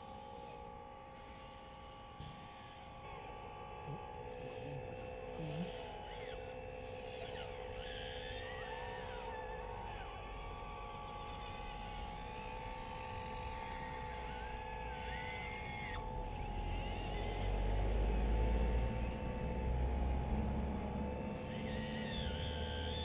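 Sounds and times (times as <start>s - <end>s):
model excavator motor whine: 0.0s - 23.0s.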